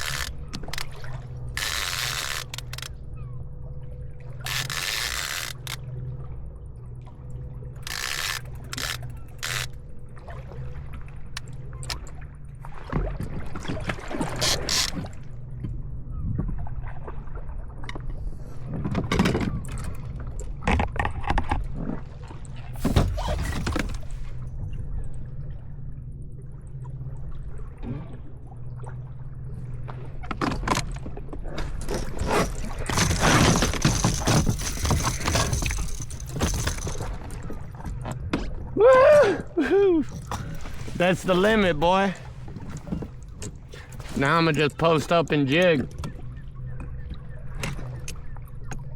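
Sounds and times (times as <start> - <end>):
water splashing and gurgling: 0.0 - 48.9.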